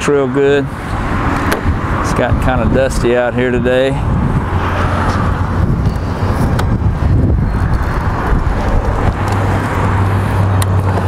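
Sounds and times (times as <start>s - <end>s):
wind buffeting microphone: 0.5s - 11.0s.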